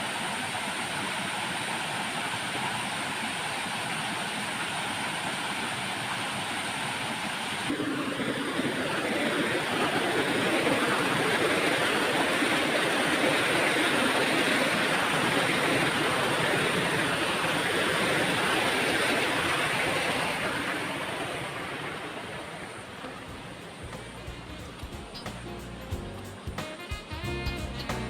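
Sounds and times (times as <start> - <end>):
flowing falling water: 0.0 - 28.0.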